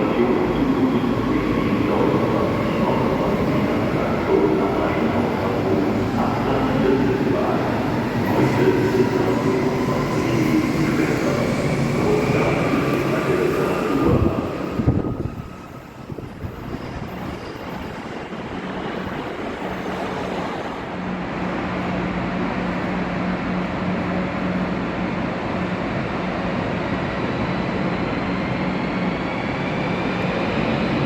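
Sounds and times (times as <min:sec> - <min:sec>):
train rumbling through station: 0:00.0 - 0:31.0.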